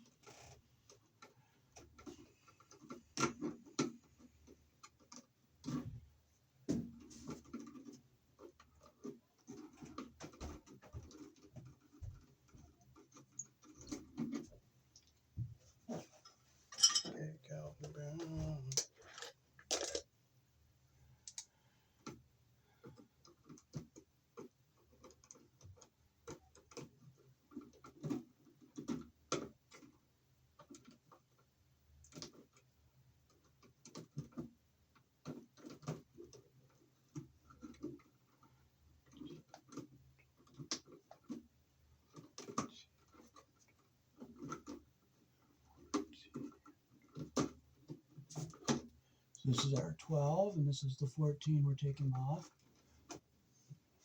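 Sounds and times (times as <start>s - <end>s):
electrical wires clicking and rattling: 0.0s - 20.1s, 21.2s - 53.4s.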